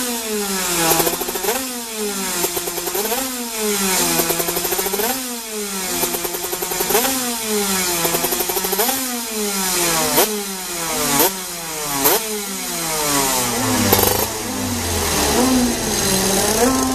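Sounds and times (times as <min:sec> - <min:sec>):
go-kart engine revving: 0:00.0 - 0:16.9.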